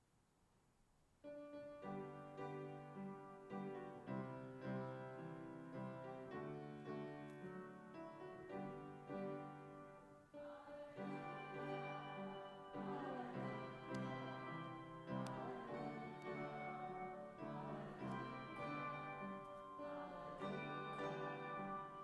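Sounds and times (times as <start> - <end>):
slow instrumental music: 1.3 - 22.0.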